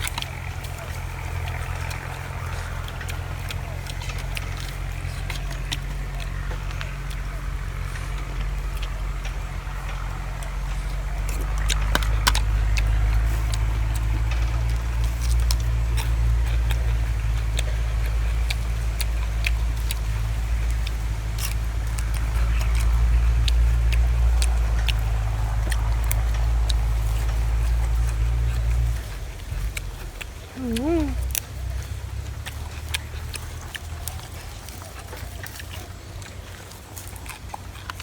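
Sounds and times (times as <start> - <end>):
chewing crunchy vegetables: 0.0 - 38.0.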